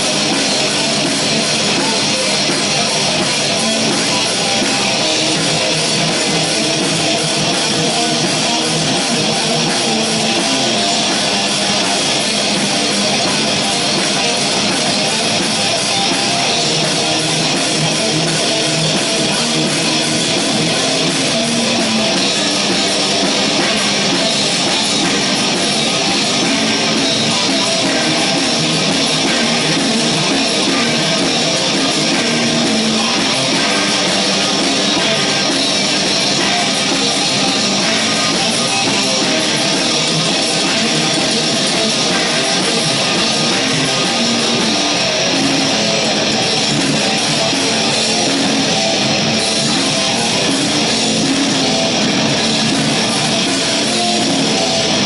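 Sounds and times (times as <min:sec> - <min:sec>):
distorted electric guitars: 0:00.0 - 0:55.0
drums: 0:00.0 - 0:55.0.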